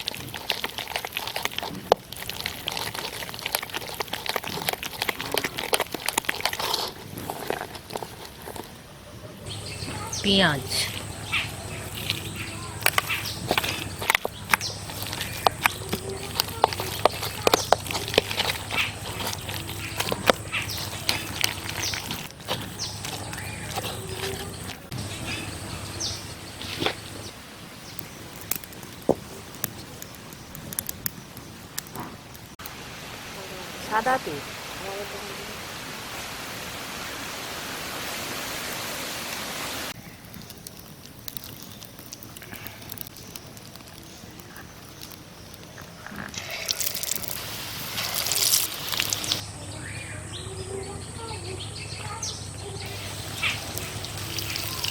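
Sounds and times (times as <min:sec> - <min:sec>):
small birds chirping: 0:00.0 - 0:32.2, 0:39.9 - 0:54.9
oil crackling: 0:00.0 - 0:33.2, 0:39.2 - 0:49.8, 0:50.8 - 0:54.9.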